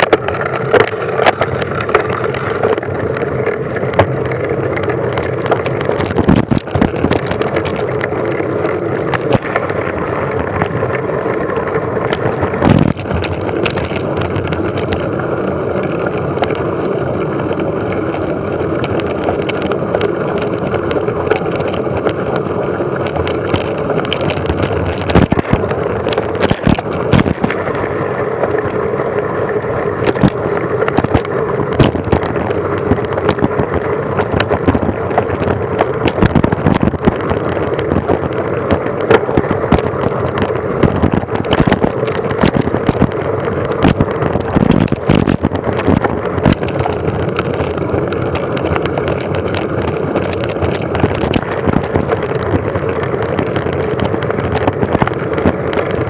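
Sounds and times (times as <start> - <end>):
tyre rumble: 0.0 - 56.0
wind on microphone: 0.0 - 56.0.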